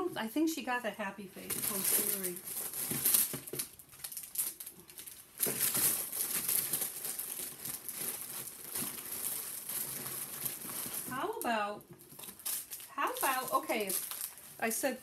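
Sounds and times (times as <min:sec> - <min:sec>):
plastic packaging crinkling: 0:00.8 - 0:15.0.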